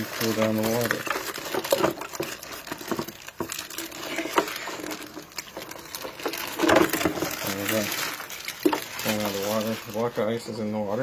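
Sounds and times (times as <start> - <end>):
plastic ice bag crinkling: 0.0 - 11.0.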